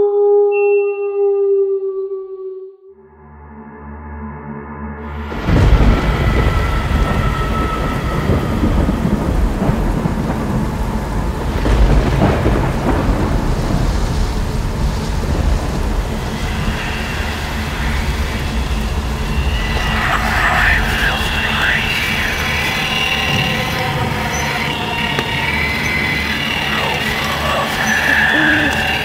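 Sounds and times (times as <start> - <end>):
deep rolling thunder: 5.2 - 29.0
steady rain: 5.2 - 29.0.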